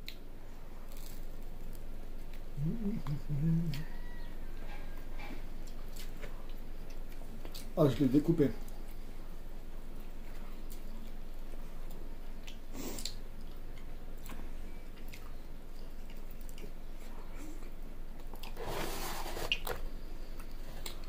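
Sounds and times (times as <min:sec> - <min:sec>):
chewing pizza with mouth clicks: 0:00.9 - 0:07.8, 0:10.0 - 0:18.6, 0:19.4 - 0:21.0.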